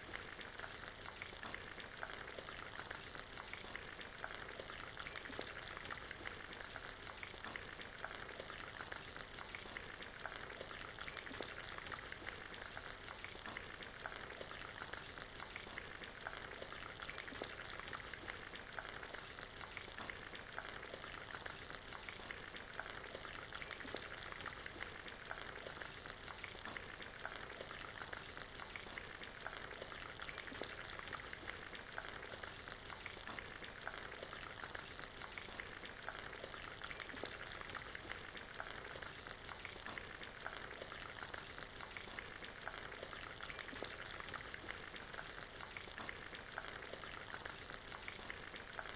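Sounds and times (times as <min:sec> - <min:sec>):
fireplace fire crackling: 0:00.0 - 0:48.9
steady rain: 0:00.0 - 0:48.9.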